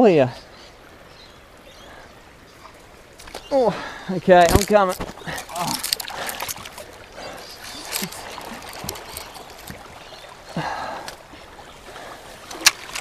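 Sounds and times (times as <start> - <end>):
river water running: 0.0 - 13.0
light water splashes: 0.3 - 13.0
twigs and leaves crackling: 2.6 - 13.0.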